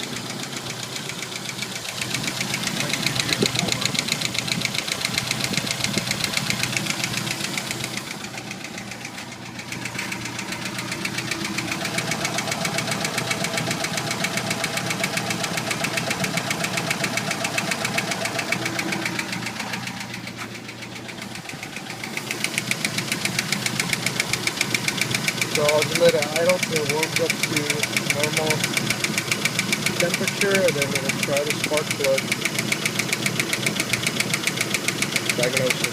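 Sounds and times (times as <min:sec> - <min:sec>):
engine idling with ticking knock: 0:00.0 - 0:35.9.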